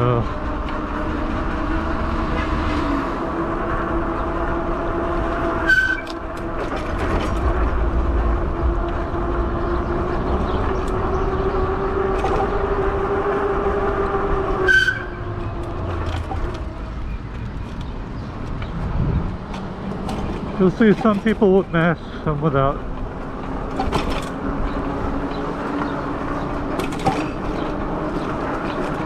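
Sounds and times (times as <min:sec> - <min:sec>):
e-bike motor whining: 0:00.0 - 0:29.0
wind and tyre rumble: 0:00.0 - 0:29.0.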